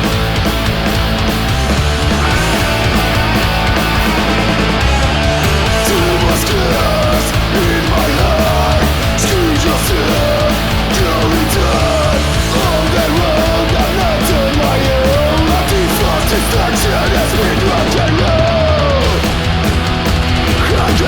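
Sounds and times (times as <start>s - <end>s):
punk rock band playing: 0.0s - 21.0s.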